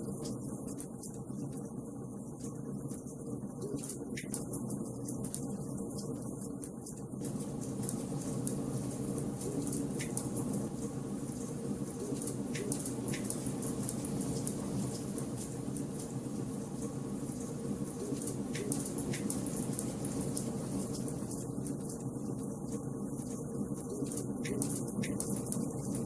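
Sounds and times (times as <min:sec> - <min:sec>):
fire hissing and rumbling: 0:04.5 - 0:26.0.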